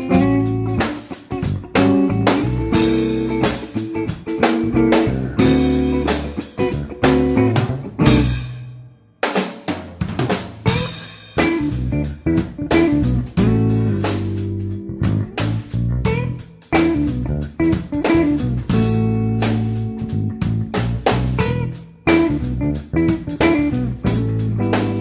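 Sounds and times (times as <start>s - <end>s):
band music with drum kit: 0.0s - 25.0s.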